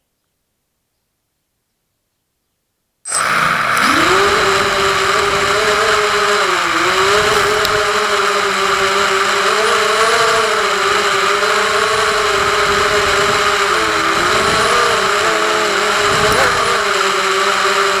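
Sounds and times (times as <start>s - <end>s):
drone motors buzzing: 3.1s - 18.0s.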